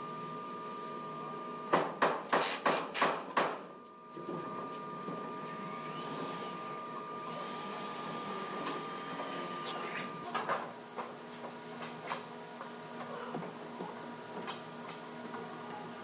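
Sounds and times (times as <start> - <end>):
steady machine hum: 0.0 - 2.1, 3.7 - 16.0.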